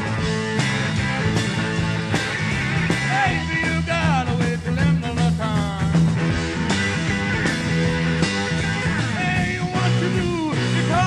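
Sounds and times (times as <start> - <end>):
bass guitar pattern: 0.0 - 11.0
electric guitar lead line: 0.0 - 11.0
rock band playing: 0.0 - 11.0.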